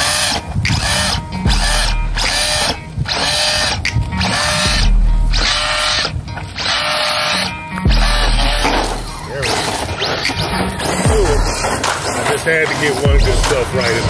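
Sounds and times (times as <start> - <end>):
electric motor revving whine: 0.0 - 14.0.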